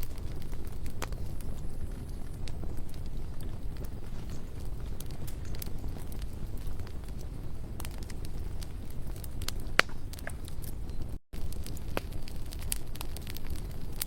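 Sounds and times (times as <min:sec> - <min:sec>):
low rush of flames: 0:00.0 - 0:14.0
wood crackles and pops: 0:00.0 - 0:14.0.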